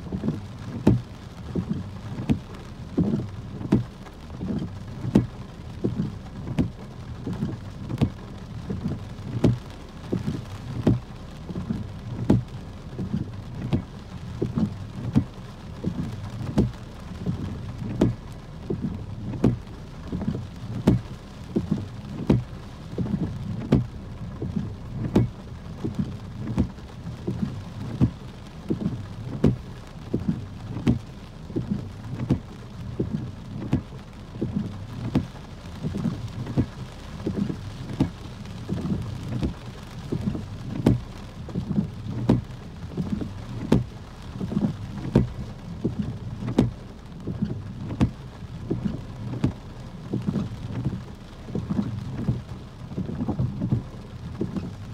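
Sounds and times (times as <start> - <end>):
low rumble of rain: 0.0 - 54.9
raindrops knocking on car roof: 0.0 - 54.9.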